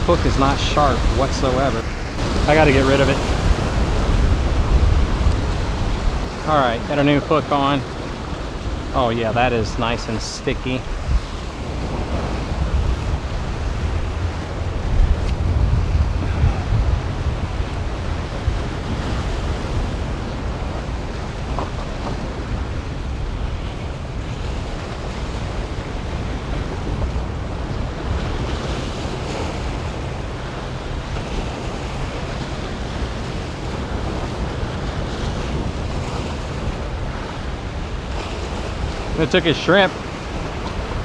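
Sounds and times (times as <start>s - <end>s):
surf against jetty: 0.0s - 41.0s
wind buffeting microphone: 0.0s - 41.0s.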